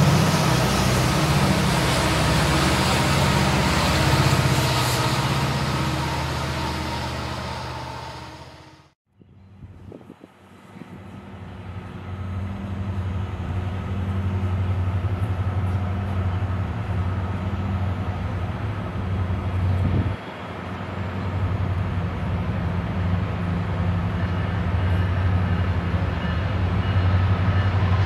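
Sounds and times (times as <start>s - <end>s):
diesel locomotive engines droning: 0.0s - 28.0s.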